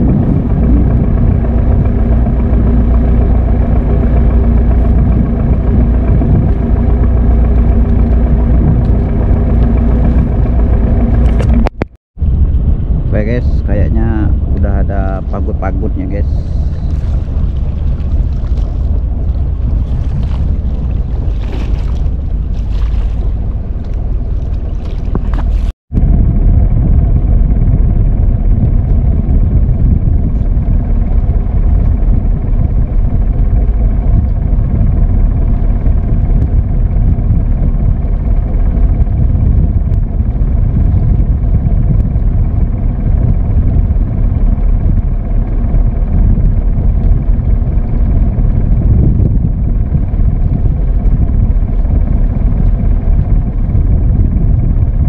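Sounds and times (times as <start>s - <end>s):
water splashing at hull: 0.0s - 12.8s, 14.4s - 55.0s
boat engine rumbling: 0.0s - 55.0s
wind buffeting microphone: 0.0s - 55.0s.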